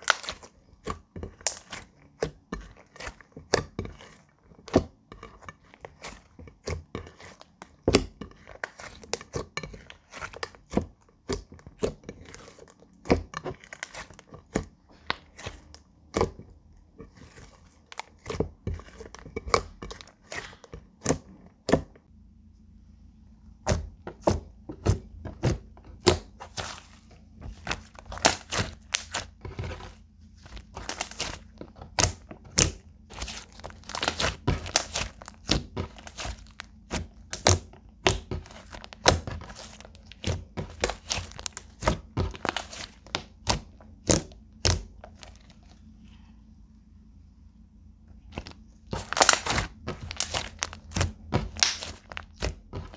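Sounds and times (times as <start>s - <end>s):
slime squished by hand: 0.0s - 22.0s, 23.6s - 46.3s, 48.2s - 52.9s.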